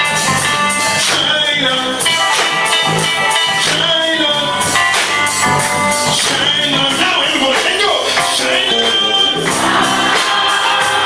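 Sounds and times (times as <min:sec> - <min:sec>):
upbeat music with drums: 0:00.0 - 0:11.0.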